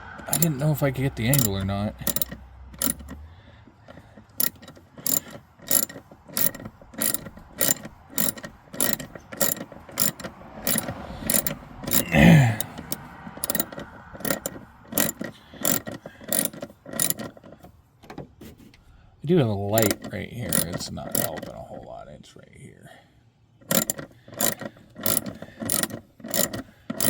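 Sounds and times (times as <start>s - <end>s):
hand ratchet clicking: 0.0s - 17.8s, 19.7s - 21.6s, 23.6s - 27.0s.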